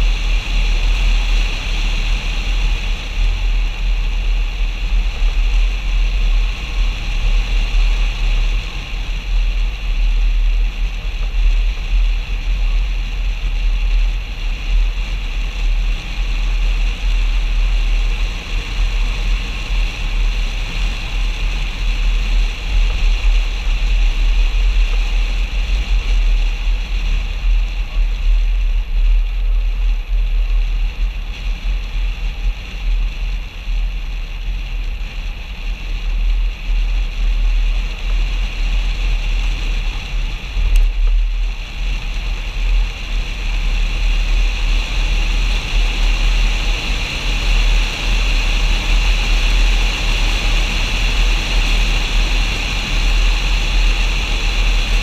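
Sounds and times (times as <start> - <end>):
car road and engine noise: 0.0 - 55.0
wind rush on microphone: 0.0 - 55.0.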